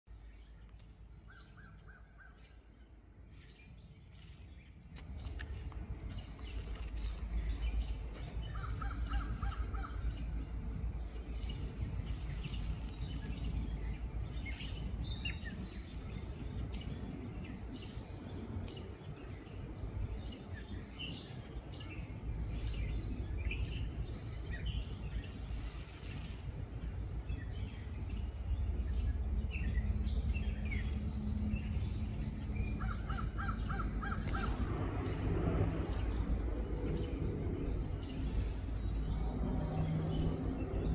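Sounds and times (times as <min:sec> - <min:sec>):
birds chirping: 0:00.1 - 0:40.9
low background rumble: 0:00.1 - 0:40.9.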